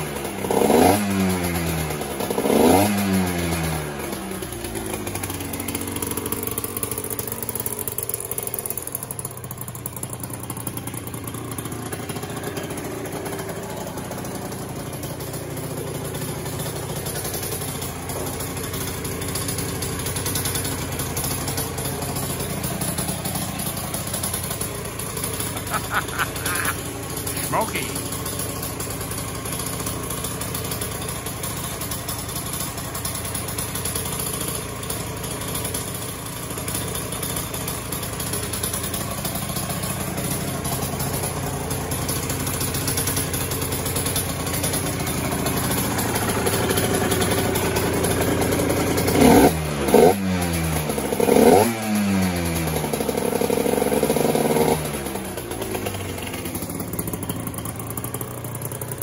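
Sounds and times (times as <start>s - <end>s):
motorcycle engine idling: 0.0s - 59.0s
motorcycle engine revving: 0.0s - 59.0s.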